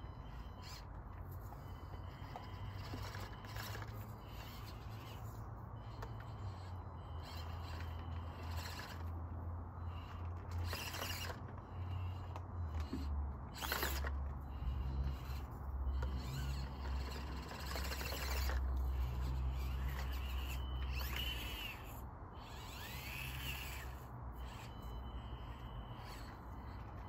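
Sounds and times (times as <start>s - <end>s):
small electric motor whirring: 0.0s - 27.0s.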